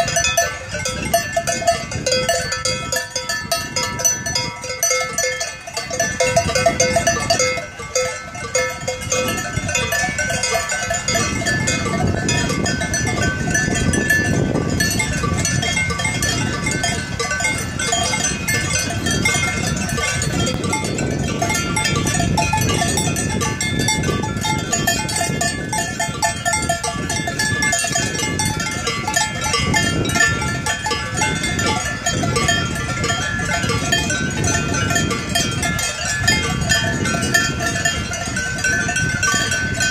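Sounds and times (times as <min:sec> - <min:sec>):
cowbells ringing: 0:00.0 - 0:39.9.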